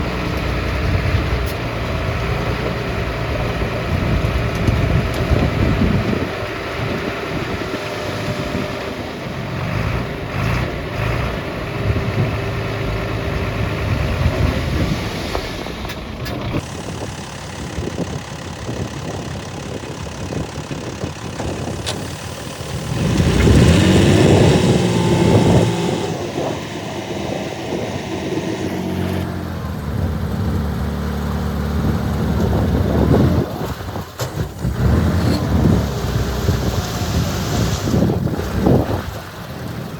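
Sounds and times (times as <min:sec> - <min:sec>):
heavy machinery diesel engines revving: 0:00.0 - 0:39.9.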